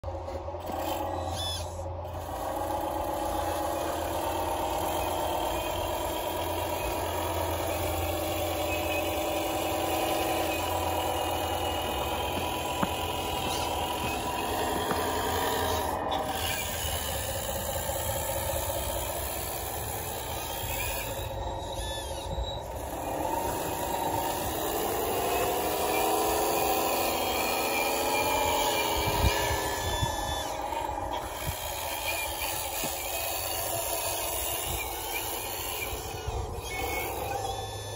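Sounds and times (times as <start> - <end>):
toy loader motor whine: 0.0 - 37.9.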